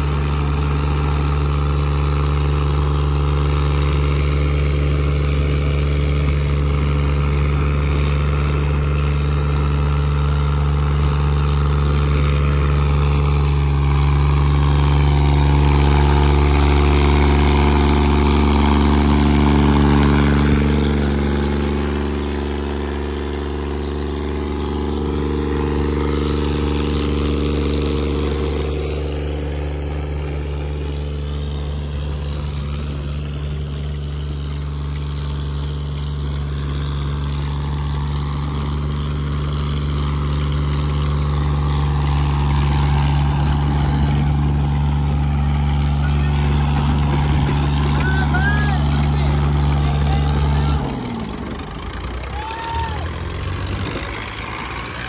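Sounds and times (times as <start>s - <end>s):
diesel tractor engines under load: 0.0s - 55.0s.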